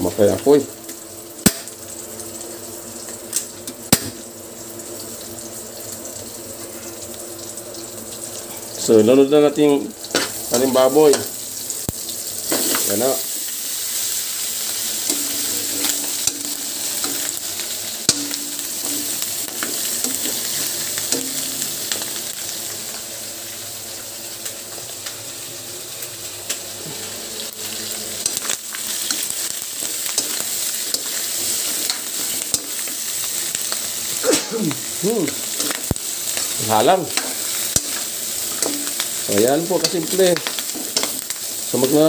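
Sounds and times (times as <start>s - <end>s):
meat sizzling in oil: 0.0s - 42.0s.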